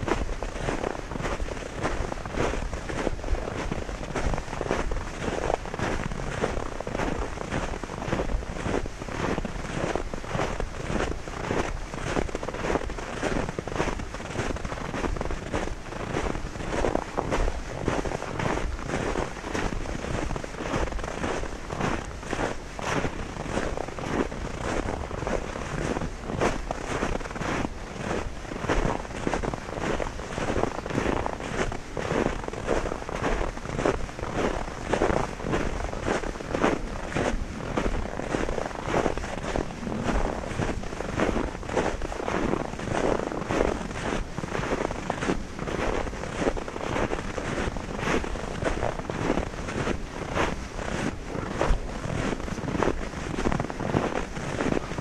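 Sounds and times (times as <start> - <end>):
footsteps crunching in snow: 0.0 - 55.0.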